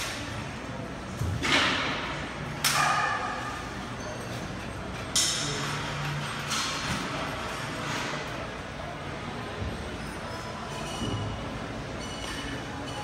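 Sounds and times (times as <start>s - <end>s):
gym background noise: 0.0s - 13.0s.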